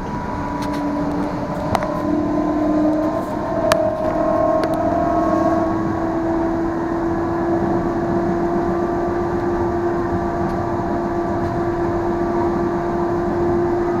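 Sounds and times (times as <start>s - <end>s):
tram motor hum: 0.0s - 14.0s
tram rolling rumble on rails: 0.0s - 14.0s.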